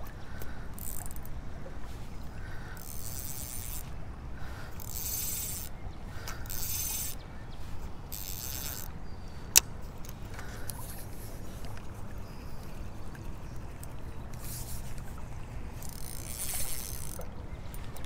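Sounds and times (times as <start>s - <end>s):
fishing reel whirring: 0.6s - 1.4s, 2.6s - 12.8s, 13.8s - 18.0s.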